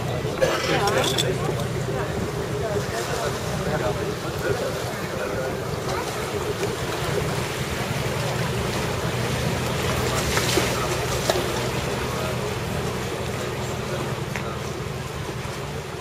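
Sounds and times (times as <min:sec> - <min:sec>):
boat engine humming: 0:00.0 - 0:16.0
water wash: 0:00.0 - 0:16.0.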